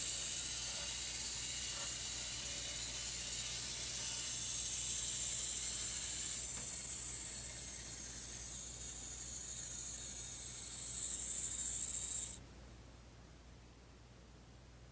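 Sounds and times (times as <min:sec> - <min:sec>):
model bus motors whining: 0:00.0 - 0:12.4.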